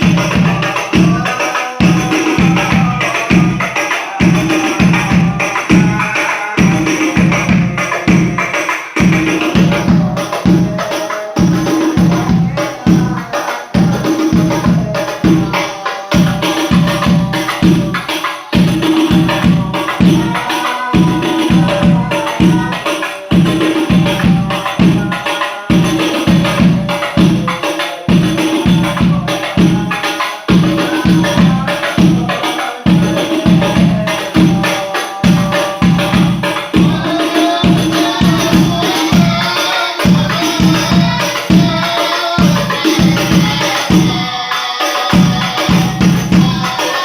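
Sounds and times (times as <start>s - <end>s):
frame drums playing: 0.0s - 47.0s
voices singing: 0.0s - 47.0s.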